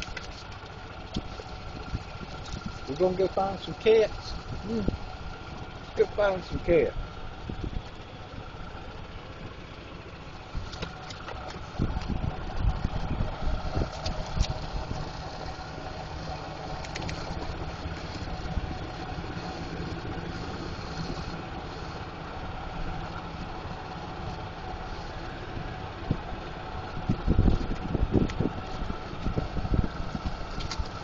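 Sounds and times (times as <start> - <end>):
golf cart humming: 0.0 - 31.0.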